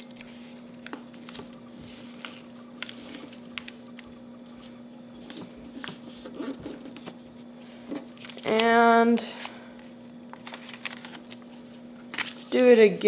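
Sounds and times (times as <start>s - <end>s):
paper rustling and crinkling: 0.0s - 9.6s, 10.3s - 12.7s
steady low hum: 0.0s - 13.0s.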